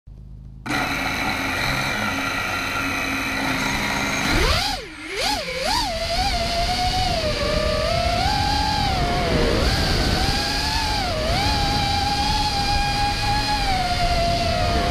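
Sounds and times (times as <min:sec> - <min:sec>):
quadcopter motors whining: 0:00.6 - 0:14.9.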